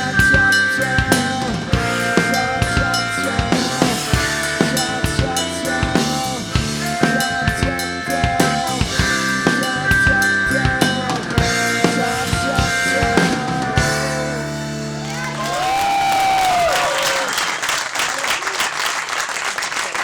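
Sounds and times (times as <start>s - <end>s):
acoustic drum kit playing: 0.0s - 16.6s
rock backing track: 0.0s - 16.7s.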